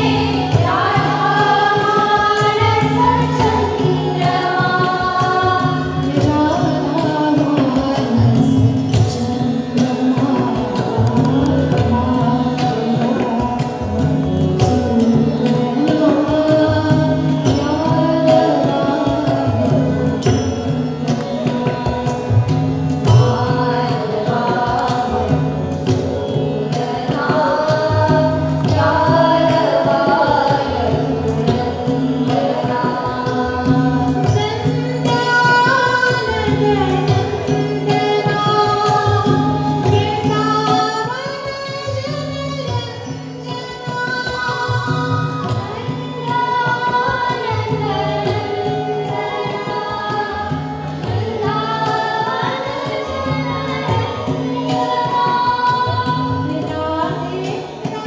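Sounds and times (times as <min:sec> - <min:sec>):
tabla strokes: 0:00.0 - 0:58.0
woman singing devotional song: 0:00.0 - 0:58.0.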